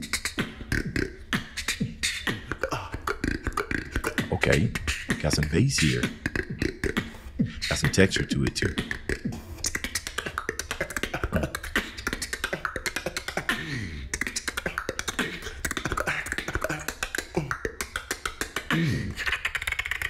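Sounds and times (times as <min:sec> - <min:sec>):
beatboxing bass sounds: 0:00.0 - 0:20.0
beatboxing clicks and hisses: 0:00.0 - 0:20.0.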